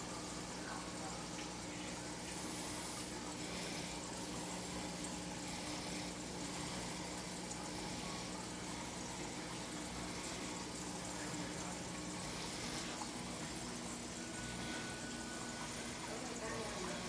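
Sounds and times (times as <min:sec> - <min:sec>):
aquarium pump hum: 0:00.0 - 0:17.0
bubbling water: 0:00.0 - 0:17.0.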